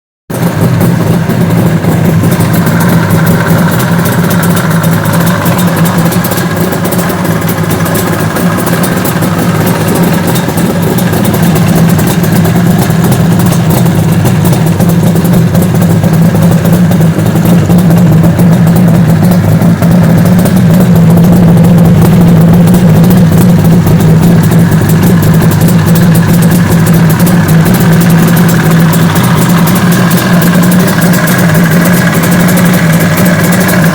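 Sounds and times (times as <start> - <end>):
two-stroke engine idling: 0.3 - 33.9.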